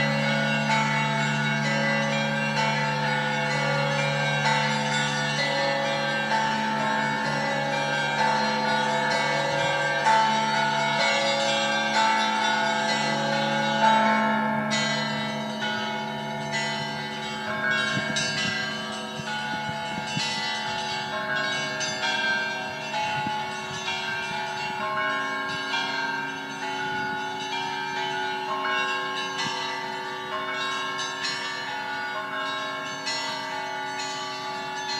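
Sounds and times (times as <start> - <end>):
deep hum of large bell: 0.0 - 34.9
small church bells pealing: 0.0 - 34.9.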